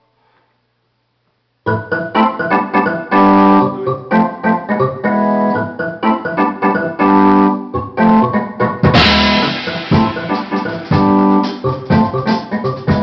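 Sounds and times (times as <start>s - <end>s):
electronic keyboard chords: 1.6s - 13.0s.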